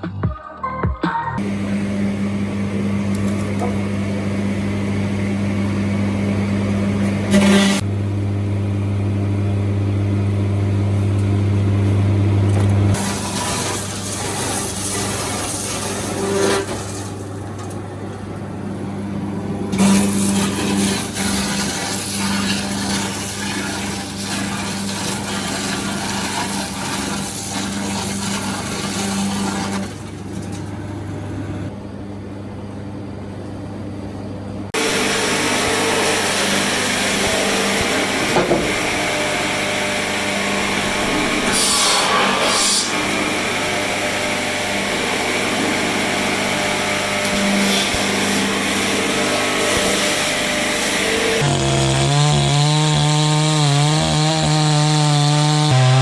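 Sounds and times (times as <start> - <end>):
noisy cutting or grinding: 1.4 - 7.9, 12.2 - 17.8, 19.5 - 31.7, 34.8 - 56.0
sawmill motor hum: 1.4 - 32.5, 34.6 - 56.0.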